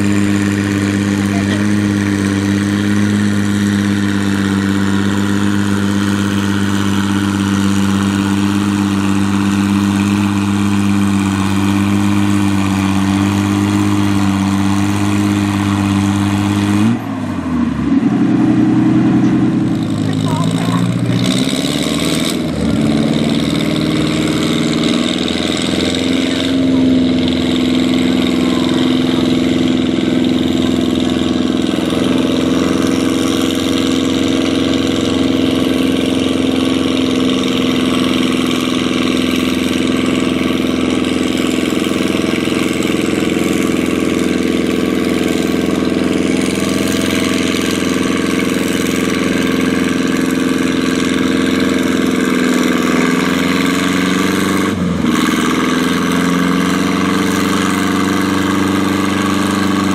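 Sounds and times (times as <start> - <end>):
tractor engine running at high revs: 0.0 - 59.9.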